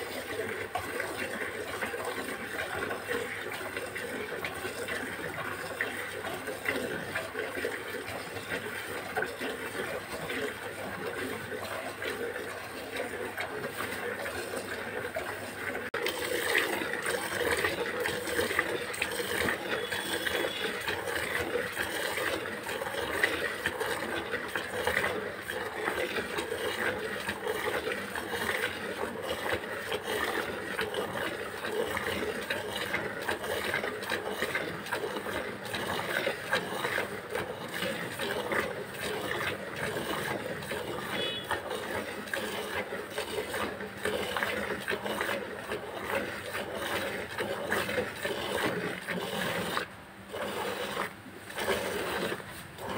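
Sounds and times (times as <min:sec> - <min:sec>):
milk squirting into bucket: 0:00.0 - 0:52.9.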